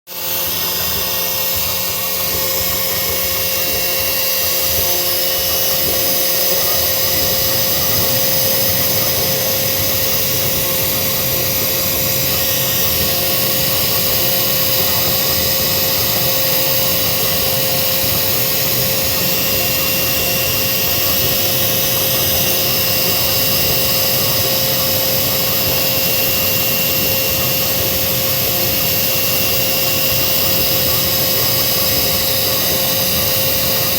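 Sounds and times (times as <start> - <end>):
cnc router whining: 0.1 - 33.9.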